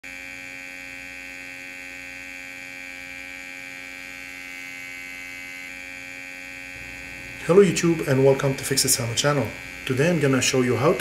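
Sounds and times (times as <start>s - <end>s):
mini air pump humming and whining: 0.0s - 11.0s.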